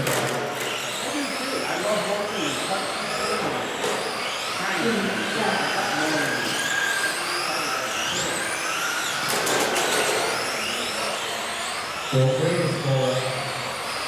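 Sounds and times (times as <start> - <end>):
electric rc trucks whining: 0.0 - 14.0.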